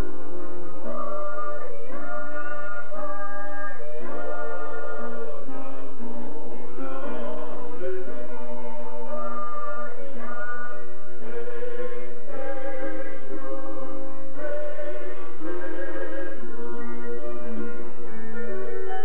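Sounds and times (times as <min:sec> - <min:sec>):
vocal group singing in harmony: 0:00.0 - 0:19.0.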